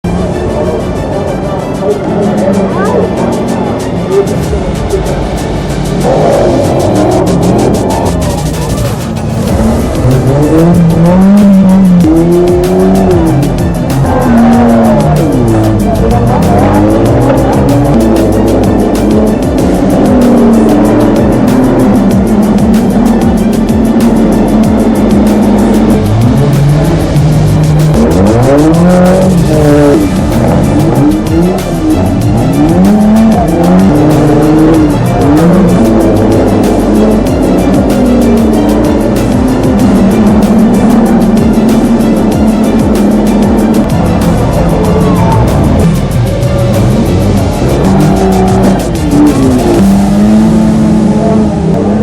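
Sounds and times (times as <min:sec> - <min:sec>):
background music with steady beat: 0:00.0 - 0:52.0
race car engines revving: 0:00.0 - 0:52.0.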